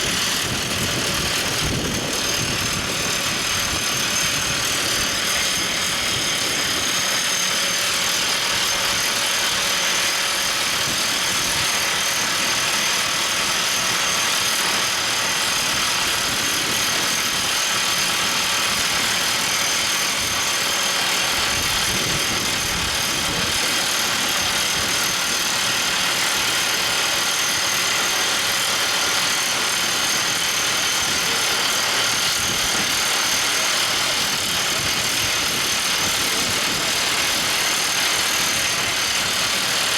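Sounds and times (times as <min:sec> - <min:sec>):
drill rig running: 0:00.0 - 0:39.9.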